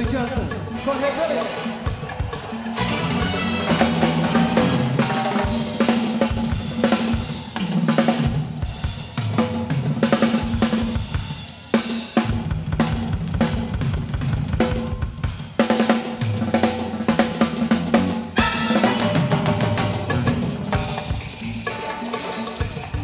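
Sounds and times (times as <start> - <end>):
drum kit fills and rolls: 0.0 - 23.0.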